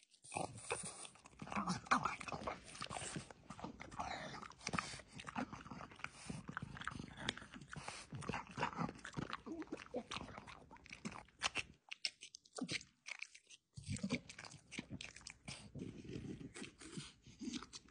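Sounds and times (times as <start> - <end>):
dog chewing crunchy food: 0.2 - 17.9.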